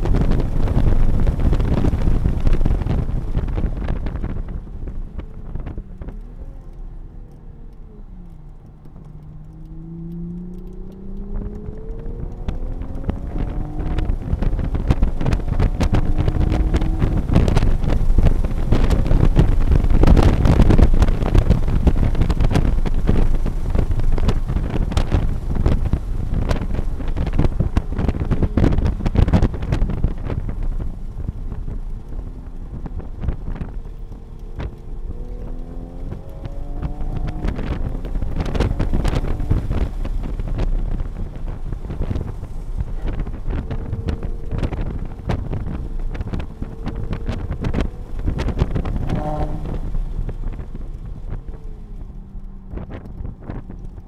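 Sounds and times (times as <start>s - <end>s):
car engine under load: 0.0s - 54.0s
wind and road noise: 0.0s - 54.0s.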